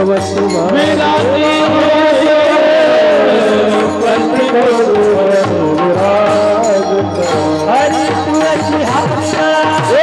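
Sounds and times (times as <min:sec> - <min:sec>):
drum beat: 0:00.0 - 0:10.0
sustained instrumental tones: 0:00.0 - 0:10.0.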